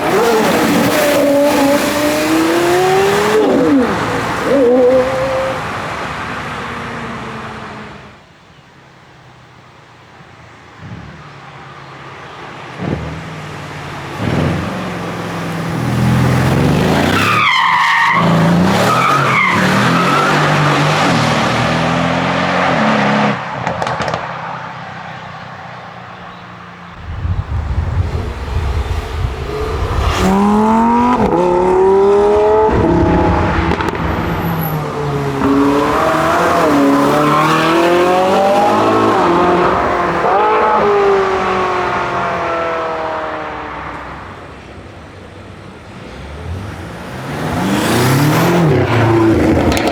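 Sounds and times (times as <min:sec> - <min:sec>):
car engines revving hard: 0:00.0 - 0:08.2, 0:12.6 - 0:25.5, 0:26.9 - 0:44.7, 0:45.6 - 0:49.9.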